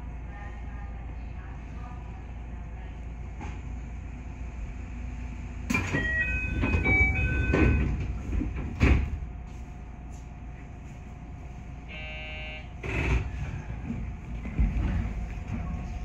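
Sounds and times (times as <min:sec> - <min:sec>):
electric train rumble: 0:02.1 - 0:16.0.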